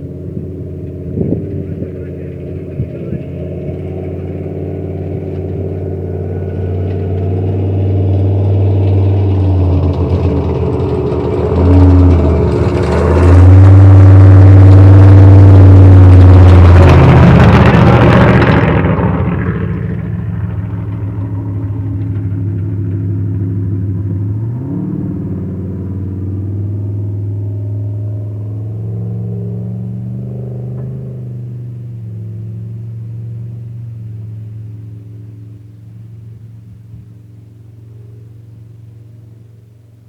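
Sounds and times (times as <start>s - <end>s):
vehicle engine revving: 0.0s - 40.0s.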